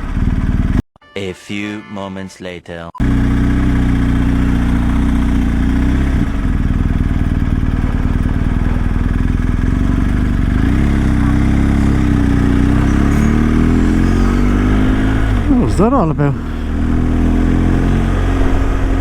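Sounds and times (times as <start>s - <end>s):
motorcycle engine running: 0.0s - 0.8s, 3.0s - 19.0s.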